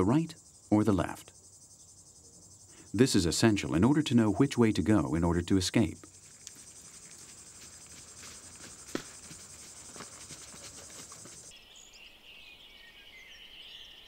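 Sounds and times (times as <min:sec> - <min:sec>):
insect chirring: 0:00.0 - 0:11.6
birds chirping and twittering: 0:00.0 - 0:14.0.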